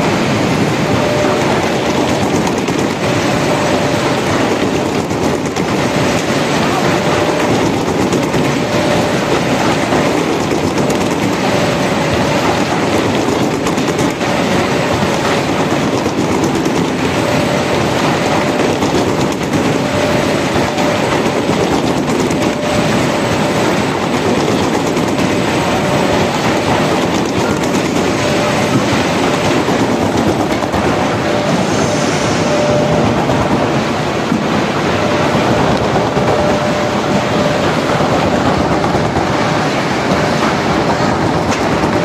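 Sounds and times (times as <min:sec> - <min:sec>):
faint machine whine: 0:00.0 - 0:42.0
loud mechanical clatter: 0:00.0 - 0:42.0.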